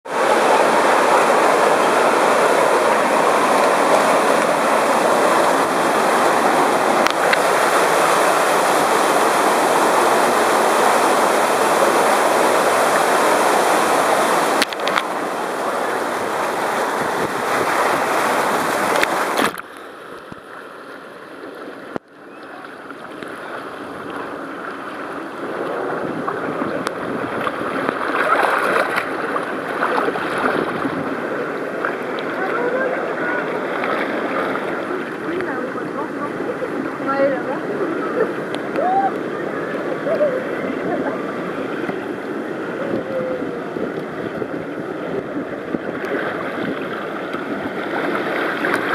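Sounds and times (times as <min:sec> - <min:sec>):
water rushing and splashing: 0:00.0 - 0:48.9.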